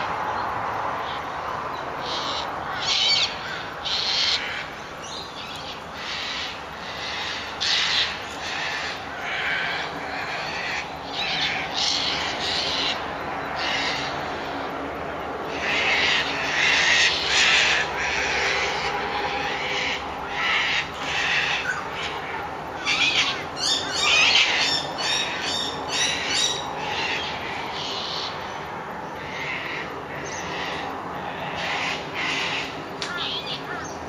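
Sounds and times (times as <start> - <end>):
birds squawking: 2.0 - 14.6, 15.5 - 34.0.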